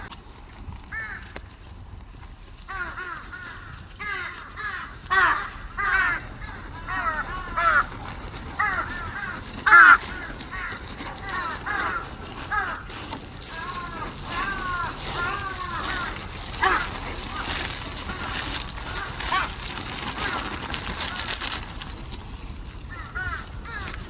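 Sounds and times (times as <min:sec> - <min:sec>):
crows cawing: 0:00.9 - 0:01.5, 0:02.6 - 0:22.0, 0:22.8 - 0:24.0.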